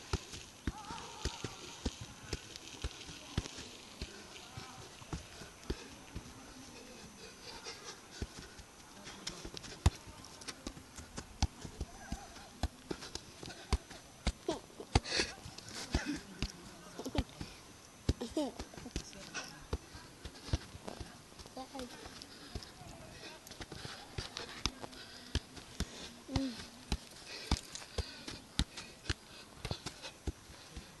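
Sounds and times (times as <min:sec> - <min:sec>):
dull thuds of football juggling: 0:00.0 - 0:06.4, 0:08.1 - 0:31.0.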